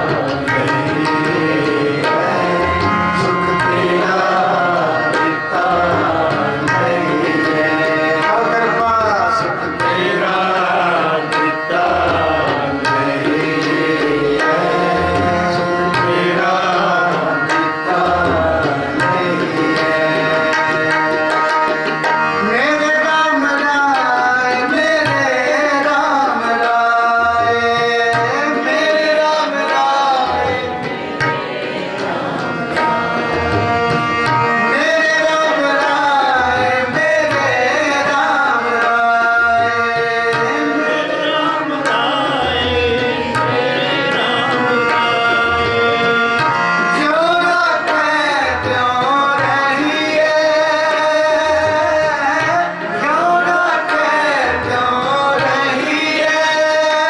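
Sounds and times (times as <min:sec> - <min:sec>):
harmonium: 0:00.0 - 0:57.0
man singing: 0:00.0 - 0:57.0
tabla drumming: 0:00.0 - 0:57.0.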